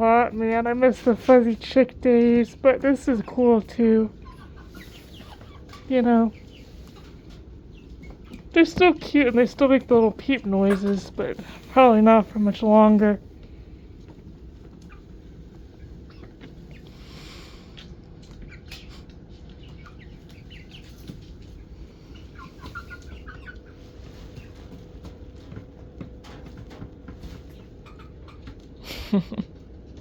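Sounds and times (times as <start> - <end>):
chicks peeping and clucking: 0.0 - 30.0.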